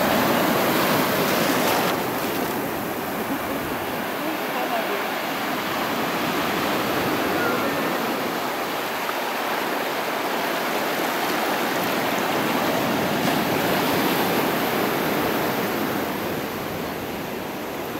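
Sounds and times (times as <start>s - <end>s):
surf washing over sand: 0.0s - 17.9s.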